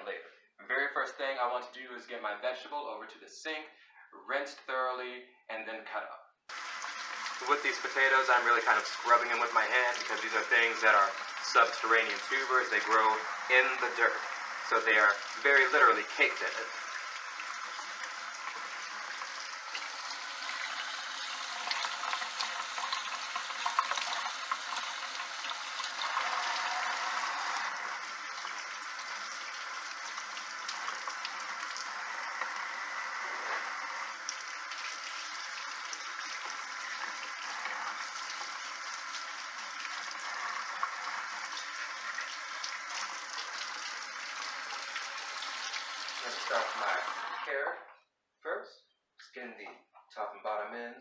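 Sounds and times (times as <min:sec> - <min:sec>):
faucet running into sink: 0:06.5 - 0:47.5.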